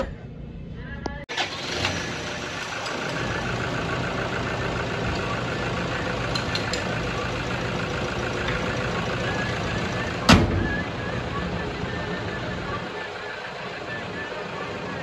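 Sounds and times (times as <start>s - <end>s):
diesel engine idling: 1.3s - 15.0s.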